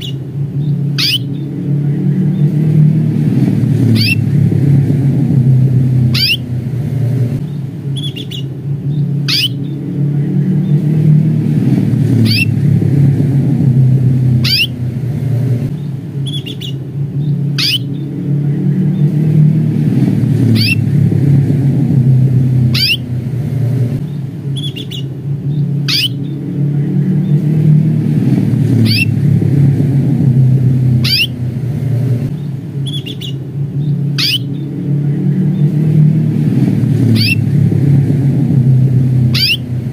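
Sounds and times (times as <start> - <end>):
canary calling: 0.0 - 3.0, 3.7 - 11.4, 12.1 - 19.6, 20.4 - 27.5, 28.7 - 29.2, 30.7 - 36.1, 37.0 - 37.7, 39.0 - 39.9
low rumble: 0.0 - 39.9.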